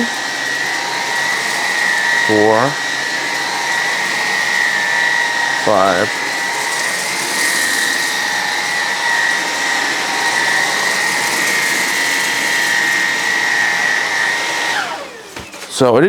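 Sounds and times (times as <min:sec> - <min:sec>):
stick vacuum motor whine: 0:00.0 - 0:16.0.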